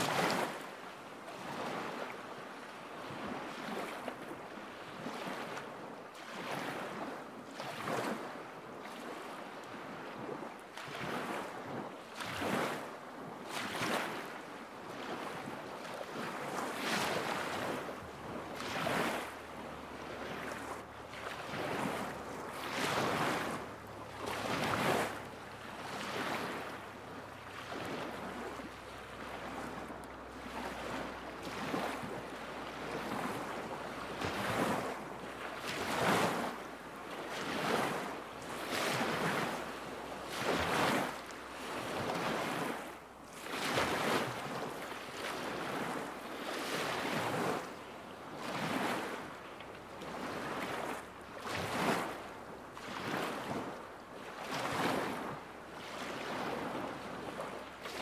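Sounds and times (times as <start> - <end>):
lake waves lapping against shore: 0.0 - 58.0.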